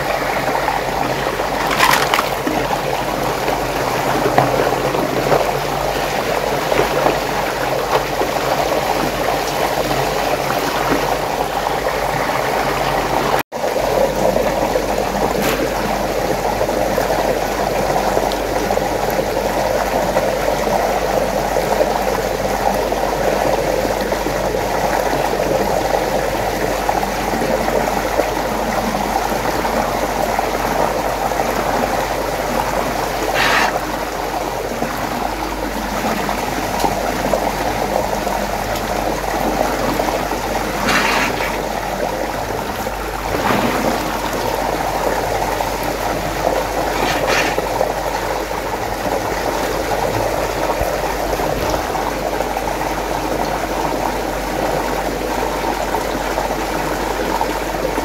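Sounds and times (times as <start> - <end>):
water swirling in a whirlpool: 0.0 - 58.0.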